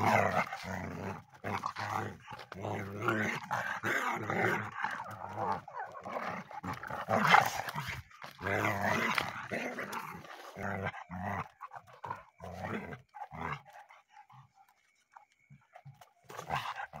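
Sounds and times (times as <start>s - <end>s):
dogs growling and fighting: 0.0s - 17.0s.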